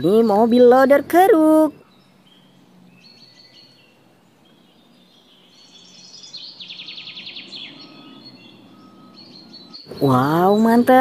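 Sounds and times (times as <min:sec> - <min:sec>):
birds chirping faintly: 0:00.0 - 0:11.0
faint background noise: 0:00.0 - 0:11.0
fast bird trill: 0:00.0 - 0:11.0.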